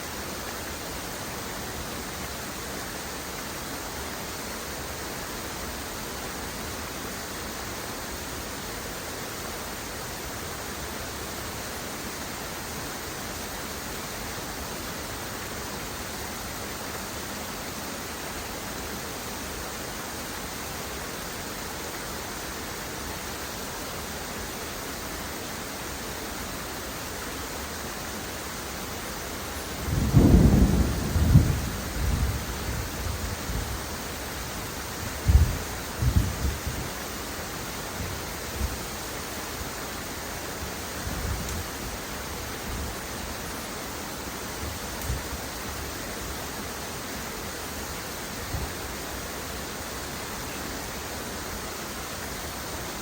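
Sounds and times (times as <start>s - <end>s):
rush of falling water: 0.0s - 53.0s.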